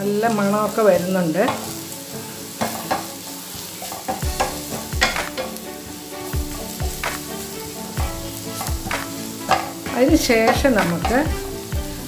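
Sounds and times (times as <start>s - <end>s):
food sizzling in oil: 0.0s - 12.0s
spatula scraping pan: 0.2s - 12.0s.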